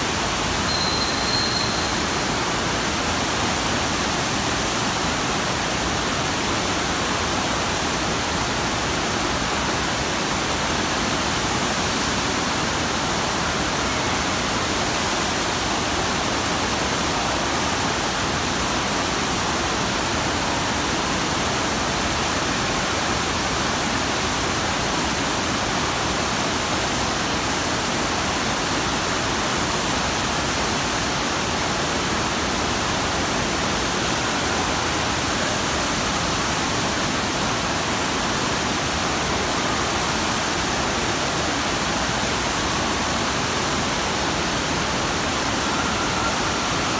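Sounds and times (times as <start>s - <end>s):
water rushing and spraying: 0.0s - 46.9s.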